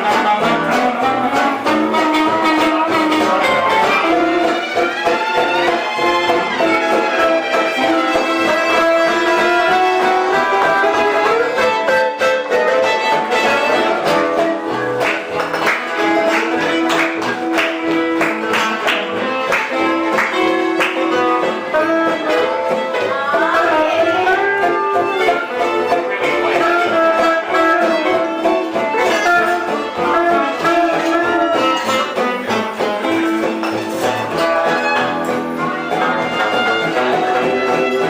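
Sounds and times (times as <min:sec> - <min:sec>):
live band playing gypsy-style music: 0:00.0 - 0:38.0.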